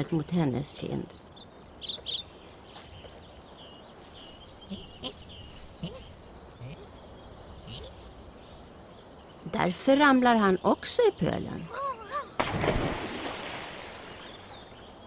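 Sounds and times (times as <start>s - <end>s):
bird chirps and trill: 0.0s - 15.0s
outdoor ambience: 0.0s - 15.0s.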